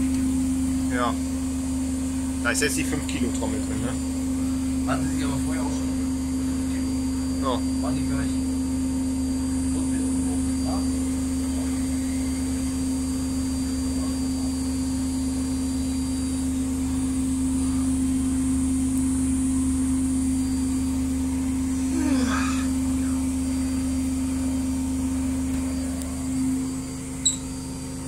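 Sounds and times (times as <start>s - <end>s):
washing machine spinning: 0.0s - 28.0s.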